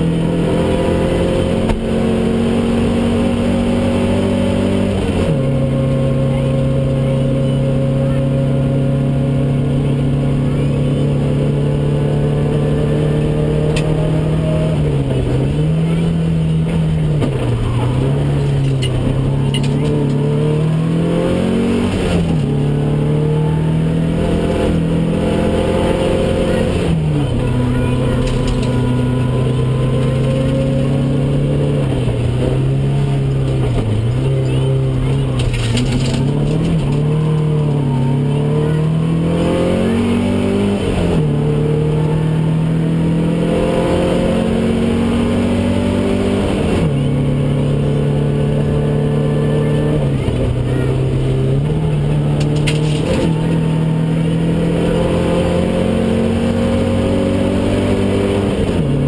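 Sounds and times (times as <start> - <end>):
rally car engine racing: 0.0 - 59.0.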